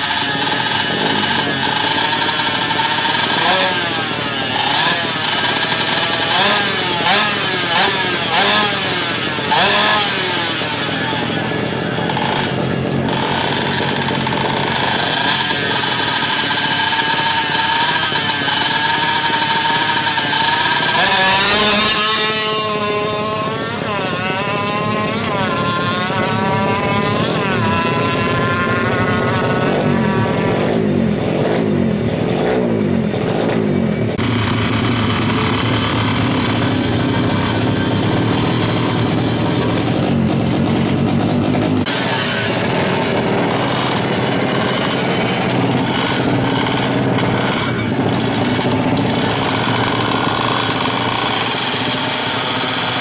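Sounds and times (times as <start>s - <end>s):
two-stroke moped engine revving: 0.0s - 53.0s.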